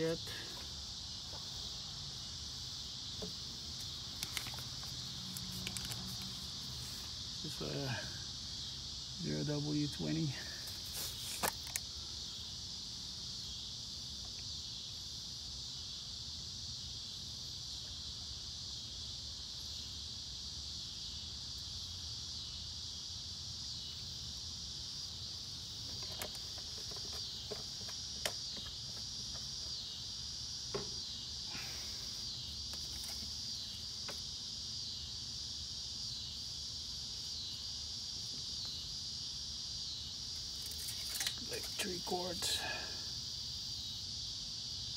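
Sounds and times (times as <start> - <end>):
high-pitched insect chorus: 0.0 - 44.9.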